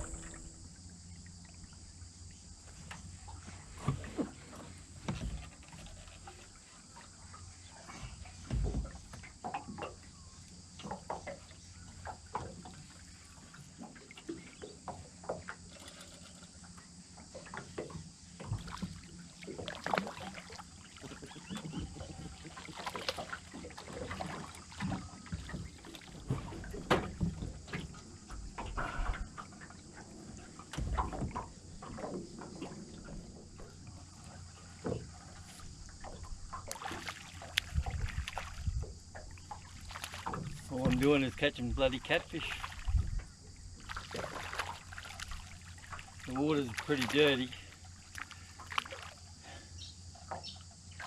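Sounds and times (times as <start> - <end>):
water slapping against boat hull: 2.6 - 15.8, 17.2 - 49.4.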